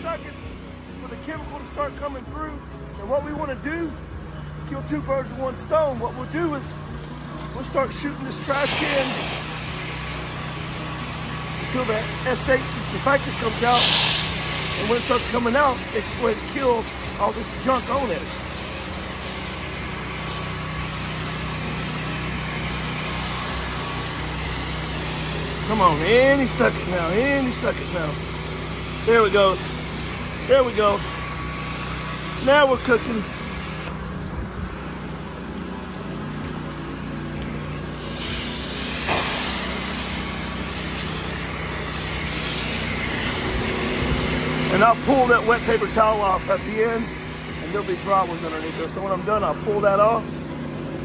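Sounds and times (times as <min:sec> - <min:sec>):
water spraying from nozzle: 0:00.0 - 0:03.9, 0:07.5 - 0:34.1, 0:37.8 - 0:50.2
gas engine pump running: 0:00.0 - 0:51.0.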